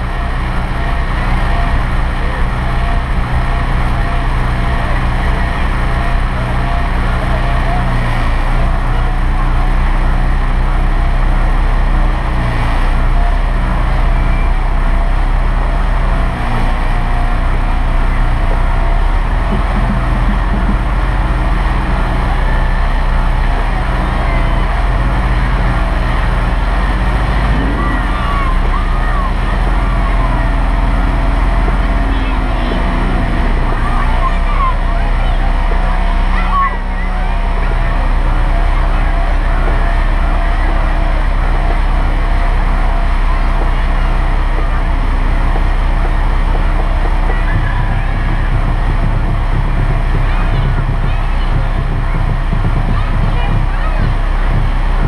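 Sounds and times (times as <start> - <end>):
diesel engine rumbling: 0.0 - 55.0
road and air noise: 0.0 - 55.0.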